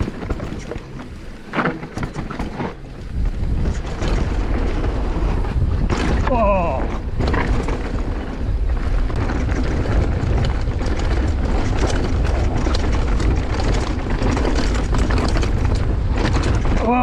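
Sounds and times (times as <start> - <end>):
bike clicks and rattles: 0.0 - 17.0
wind buffeting microphone: 0.0 - 17.0.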